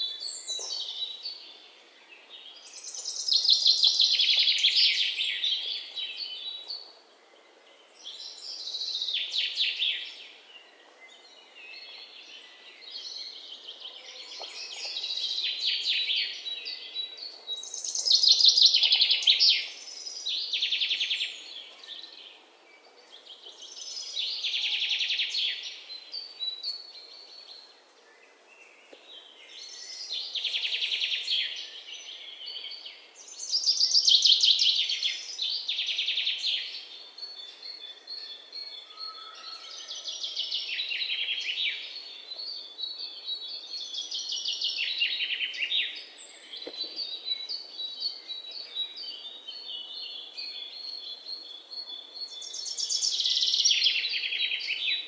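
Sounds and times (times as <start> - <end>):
songbird trilling song: 0.0 - 55.0.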